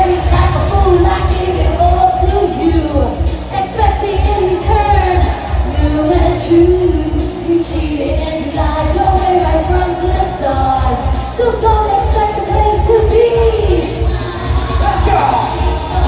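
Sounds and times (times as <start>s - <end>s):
backing track with bass beat: 0.0s - 16.0s
woman singing pop song: 0.0s - 16.0s.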